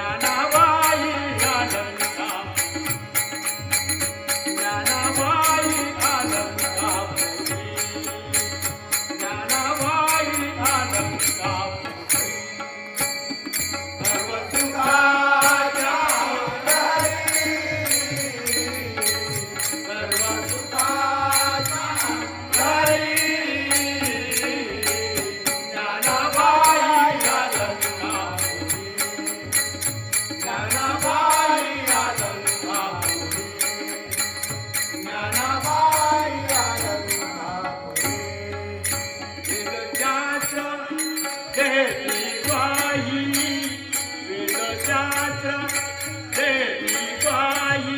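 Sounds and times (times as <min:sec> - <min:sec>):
person singing devotional song: 0:00.0 - 0:47.9.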